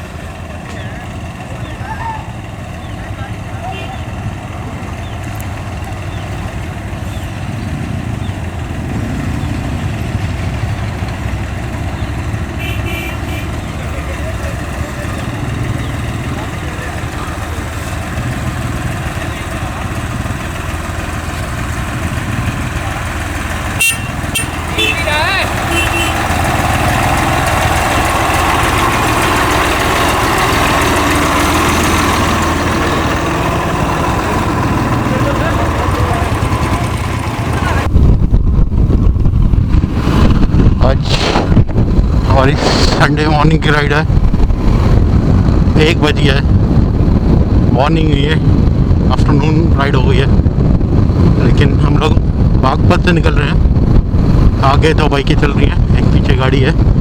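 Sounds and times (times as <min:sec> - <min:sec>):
road and wind noise: 0:00.0 - 0:57.0
vehicle engine rumbling: 0:00.0 - 0:57.0.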